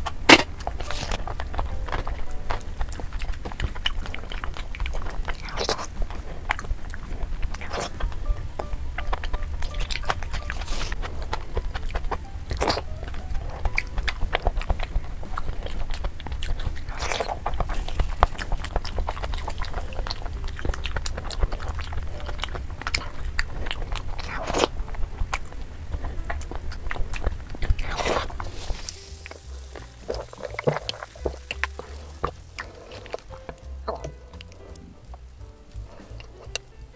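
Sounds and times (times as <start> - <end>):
low hum: 0.0 - 36.6
wet chewing and mouth smacking: 0.0 - 36.9.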